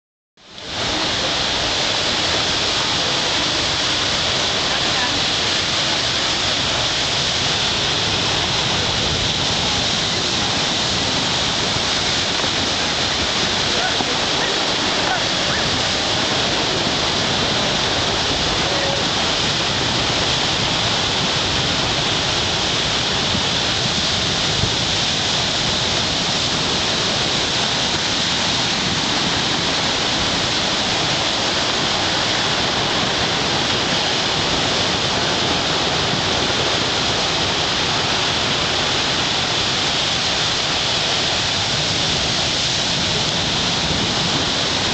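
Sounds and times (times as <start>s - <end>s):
waves breaking over rocks: 0.5s - 44.9s.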